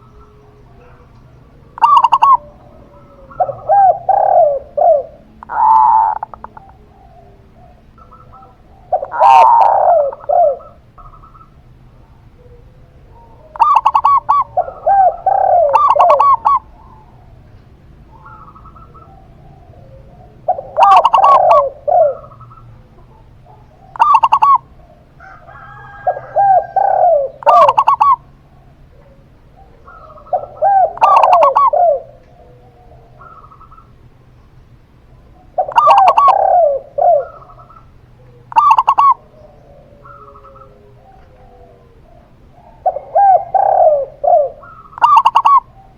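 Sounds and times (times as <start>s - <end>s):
doves cooing: 0.0s - 45.9s.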